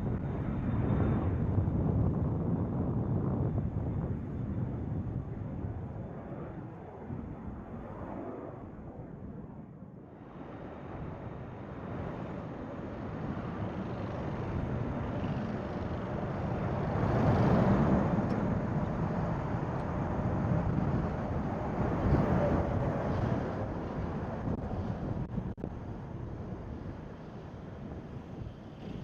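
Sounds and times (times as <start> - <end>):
jet airliner engine roar: 0.0 - 29.0
wind buffeting microphone: 0.0 - 29.0.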